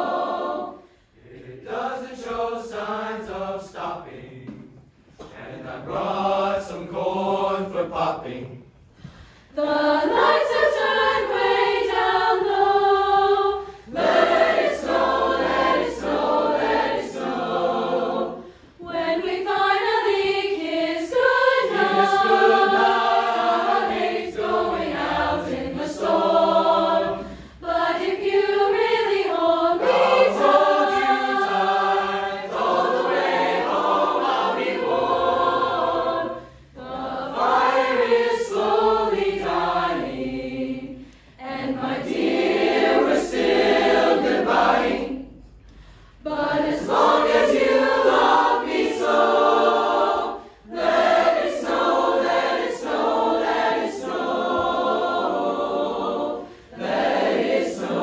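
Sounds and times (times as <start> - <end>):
chorus singing: 0.0 - 58.0.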